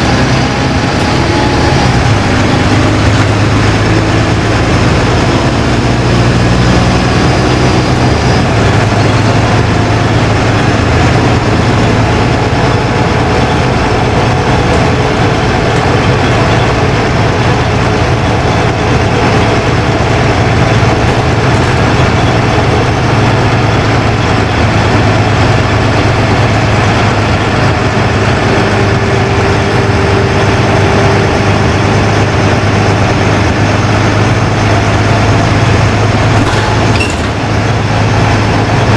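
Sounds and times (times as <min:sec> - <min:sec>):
bus diesel engine hum: 0:00.0 - 0:38.9
bus running noise: 0:00.0 - 0:38.9.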